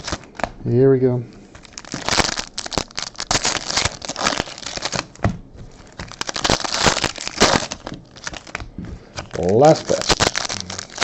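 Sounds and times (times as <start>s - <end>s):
card wrappers crinkling and tearing: 0.0s - 0.5s, 1.6s - 11.0s.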